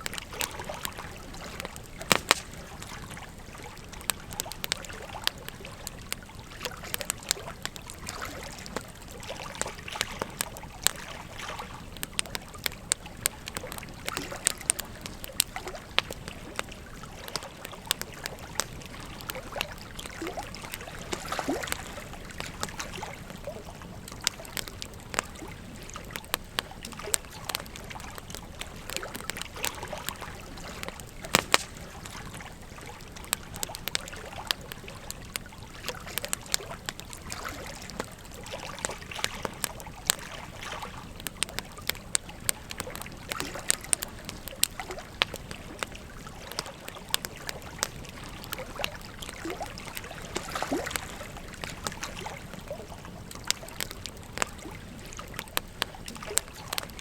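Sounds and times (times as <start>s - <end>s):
flowing river water: 0.0s - 57.0s
wood fire crackling and popping: 0.0s - 57.0s.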